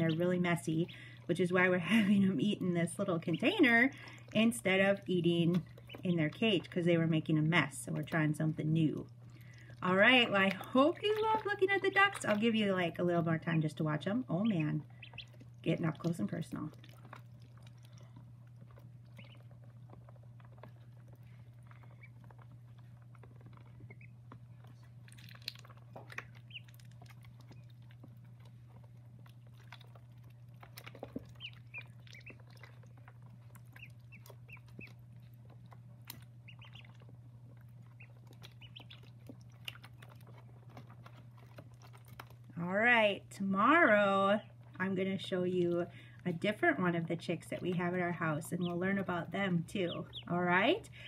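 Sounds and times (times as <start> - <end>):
ducklings peeping: 0.0 - 51.0
steady low hum: 0.0 - 51.0.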